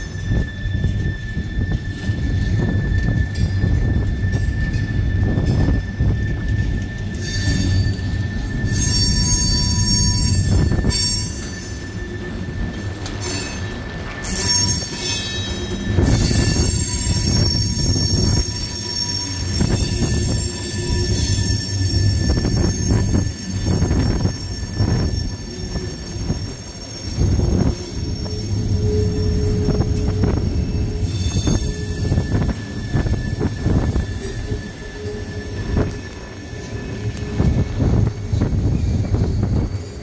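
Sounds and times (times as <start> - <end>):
metal squealing from train: 0.0 - 40.0
train wheels rumbling on rail: 0.0 - 40.0.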